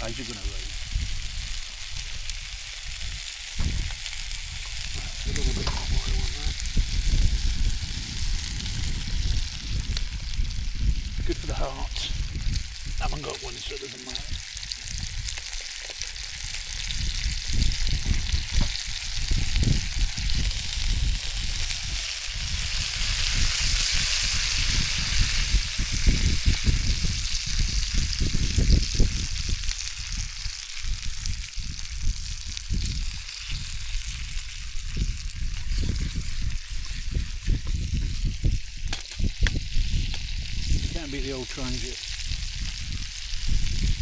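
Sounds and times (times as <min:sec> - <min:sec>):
food sizzling in frying pan: 0:00.0 - 0:44.0
wind rumbling on microphone: 0:00.0 - 0:44.0.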